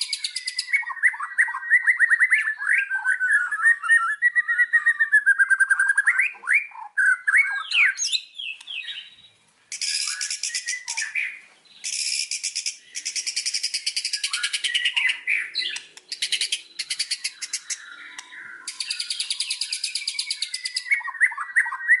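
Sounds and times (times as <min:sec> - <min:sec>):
bird singing: 0:00.0 - 0:22.0.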